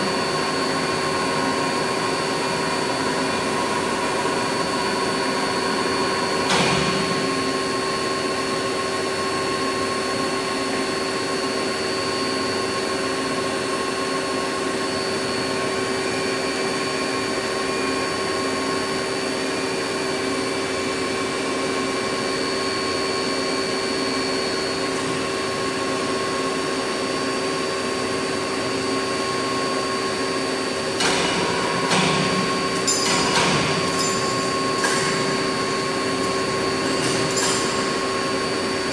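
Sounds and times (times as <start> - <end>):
machines running with hiss and whine: 0.0 - 38.9.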